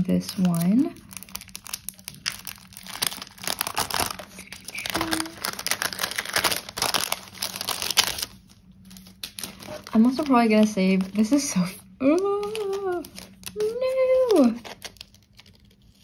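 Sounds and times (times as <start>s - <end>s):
cellophane sleeves crinkling: 0.0s - 16.0s.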